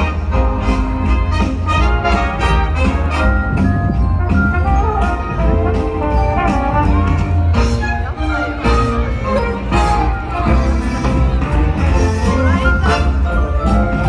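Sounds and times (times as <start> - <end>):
brass music over speakers: 0.0 - 14.0.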